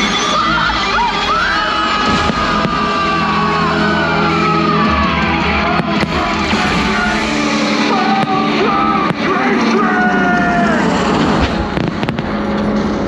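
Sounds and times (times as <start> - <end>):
soundtrack music over sound system: 0.0 - 13.0.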